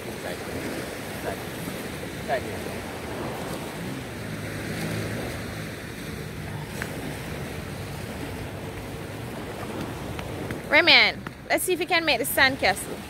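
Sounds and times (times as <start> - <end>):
ocean surf washing in: 0.0 - 13.0
wind buffeting the microphone: 0.0 - 13.0.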